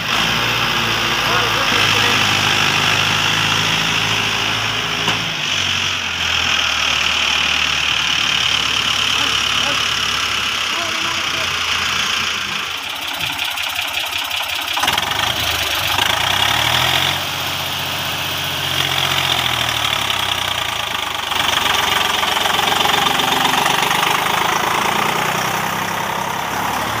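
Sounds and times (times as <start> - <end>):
diesel tractor engine under load: 0.0 - 27.0.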